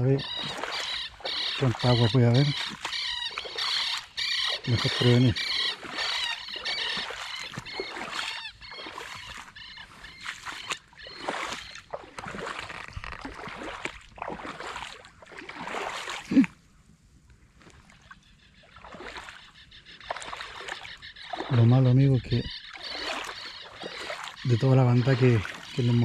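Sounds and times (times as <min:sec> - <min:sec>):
wading through shallow water: 0:00.0 - 0:26.0.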